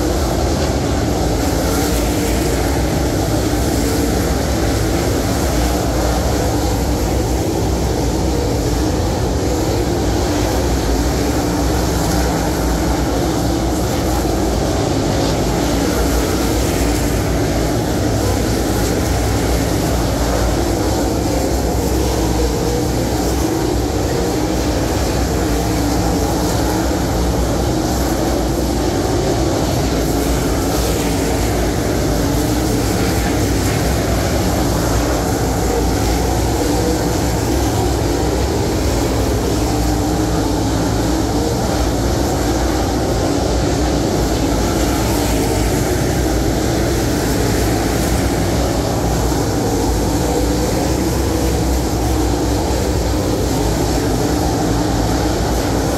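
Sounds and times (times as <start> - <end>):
race car engines roaring: 0.0 - 55.9.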